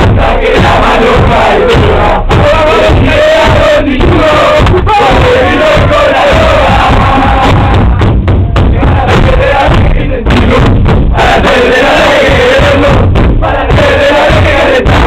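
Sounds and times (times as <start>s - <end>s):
crowd singing a chant: 0.0s - 8.1s, 8.7s - 15.0s.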